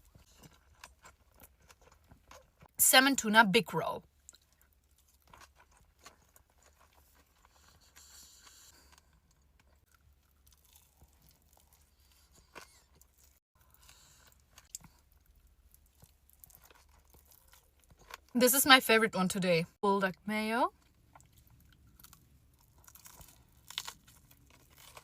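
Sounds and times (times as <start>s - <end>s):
person chewing food: 0.0s - 2.7s, 4.1s - 18.3s, 20.8s - 25.0s.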